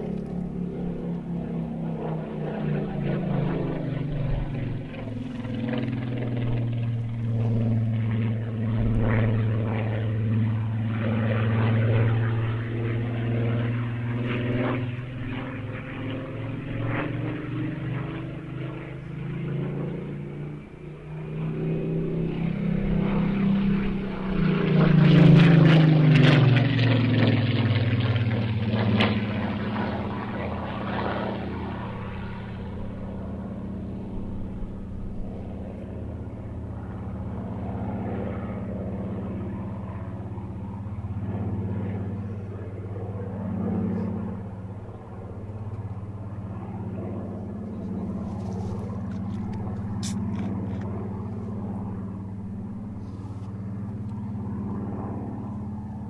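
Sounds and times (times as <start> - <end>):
propeller aircraft flying past: 0.0 - 56.0.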